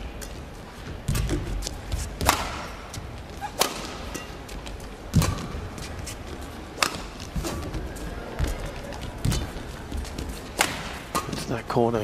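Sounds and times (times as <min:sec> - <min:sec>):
rackets striking shuttlecock: 0:01.1 - 0:09.6, 0:10.3 - 0:11.5.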